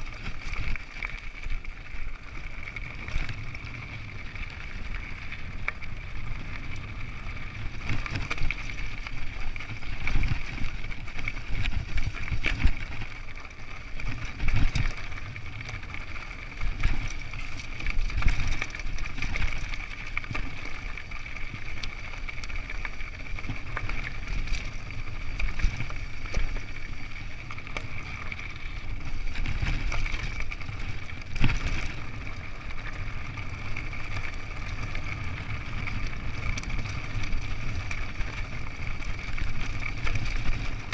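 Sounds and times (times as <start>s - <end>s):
bike rattling over stones: 0.0s - 40.9s
wind rumble on microphone: 0.0s - 40.9s.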